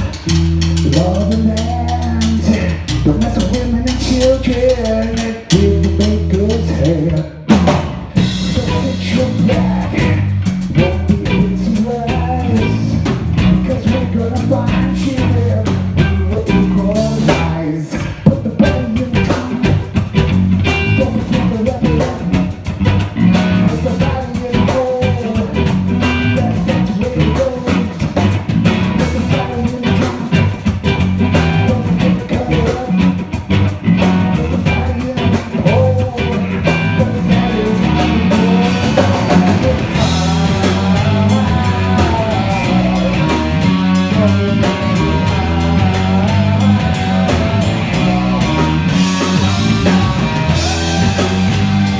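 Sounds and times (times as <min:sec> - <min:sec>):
drum kit with rimshots: 0:00.0 - 0:51.9
electric bass line: 0:00.0 - 0:51.9
electric guitar: 0:00.0 - 0:51.9.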